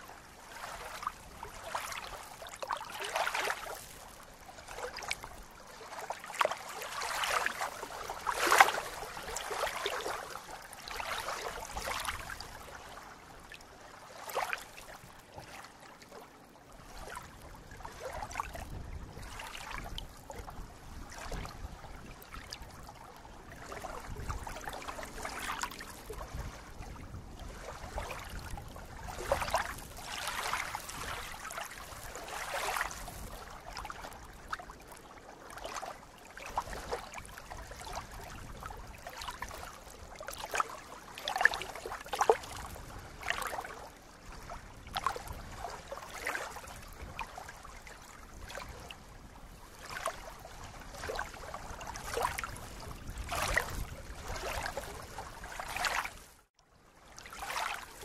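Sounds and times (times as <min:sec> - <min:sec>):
small waves lapping on shore: 0:00.0 - 0:58.0.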